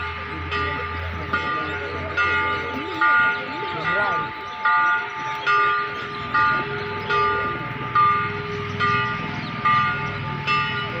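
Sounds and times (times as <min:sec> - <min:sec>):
church bell ringing: 0:00.0 - 0:11.0
crowd murmur: 0:00.0 - 0:11.0.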